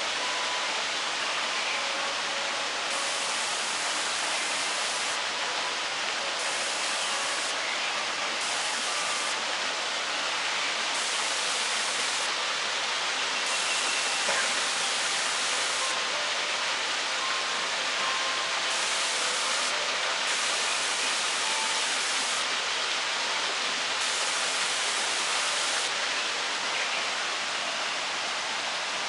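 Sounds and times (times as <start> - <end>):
small waterfall rushing: 0.0 - 29.0.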